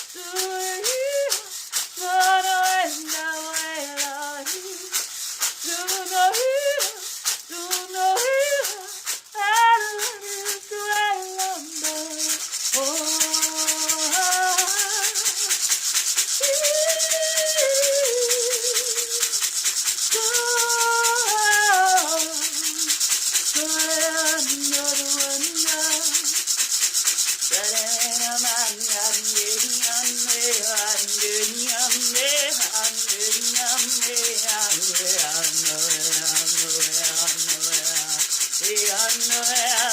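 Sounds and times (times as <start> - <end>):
woman singing wordless melody: 0.0 - 15.7, 16.3 - 19.4, 20.0 - 26.6, 27.4 - 39.9
hand rattle shaken: 0.0 - 39.9.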